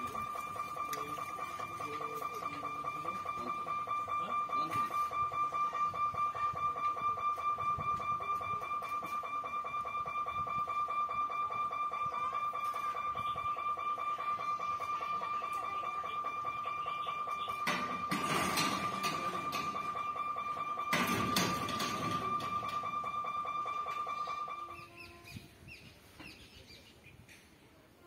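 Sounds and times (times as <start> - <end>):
level crossing warning hooter: 0.0 - 25.5.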